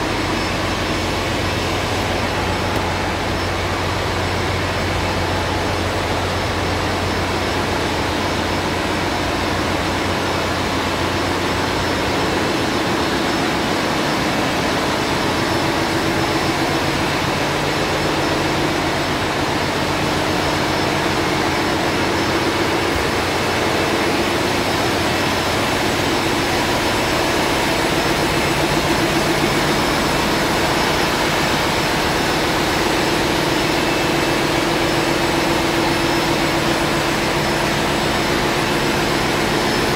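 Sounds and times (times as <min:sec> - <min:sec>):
engine room machinery drone: 0:00.0 - 0:39.9
steady mid-pitched tone: 0:00.0 - 0:39.9.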